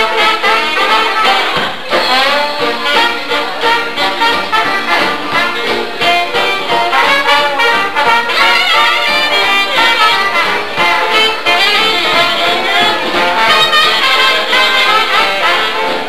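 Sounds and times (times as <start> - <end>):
jazz band playing: 0.0 - 16.0
trombone melody: 0.0 - 16.0.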